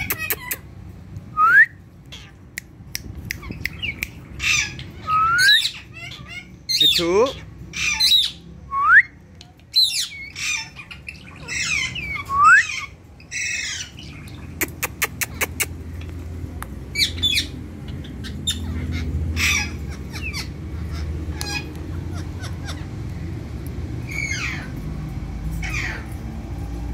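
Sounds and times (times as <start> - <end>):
parakeets squawking: 0.0 - 0.9, 2.0 - 2.5, 3.3 - 8.6, 9.7 - 26.6.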